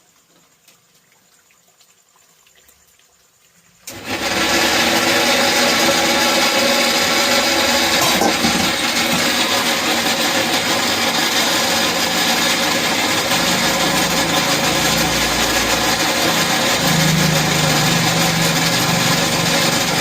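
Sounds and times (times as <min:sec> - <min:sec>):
mixer grinder running: 0:03.9 - 0:20.0.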